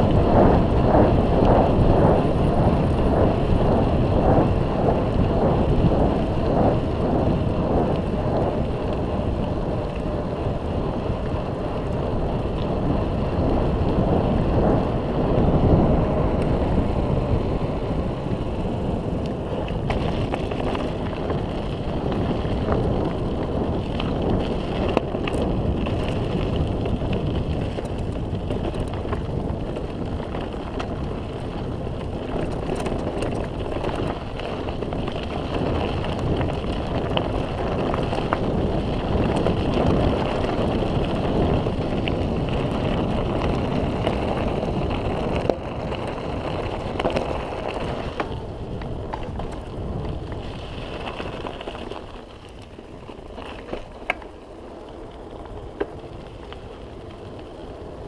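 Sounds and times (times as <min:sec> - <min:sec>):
bike knocking and rattling: 0:00.0 - 0:58.0
tyres rumbling on dirt: 0:00.0 - 0:58.0
wind rushing over microphone: 0:00.0 - 0:58.0.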